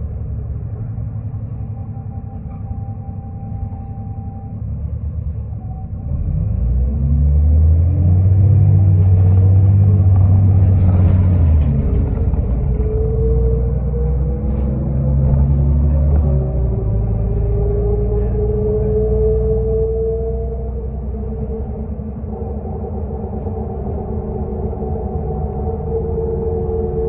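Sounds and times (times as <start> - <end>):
bus diesel engine: 0.0 - 27.0.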